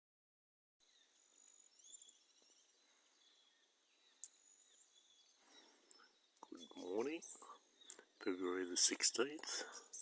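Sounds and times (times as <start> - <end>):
bird chirps: 0.8 - 10.0.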